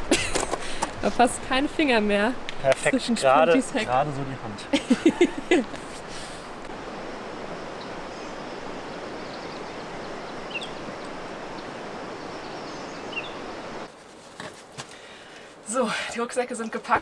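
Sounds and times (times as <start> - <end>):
running water: 0.0 - 13.9.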